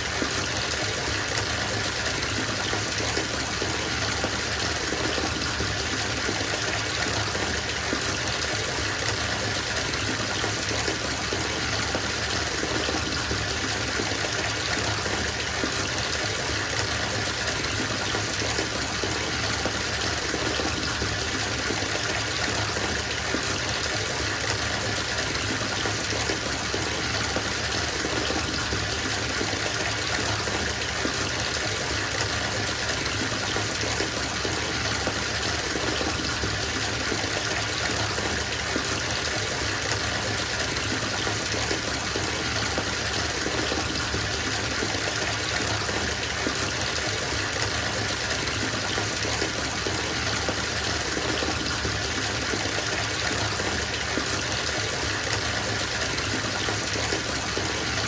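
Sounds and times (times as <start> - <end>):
tap water gushing into tub: 0.0 - 58.0.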